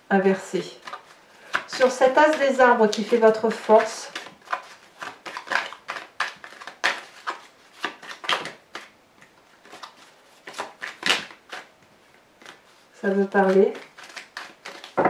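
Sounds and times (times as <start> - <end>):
cards being shuffled: 0.7 - 11.7, 12.4 - 15.0.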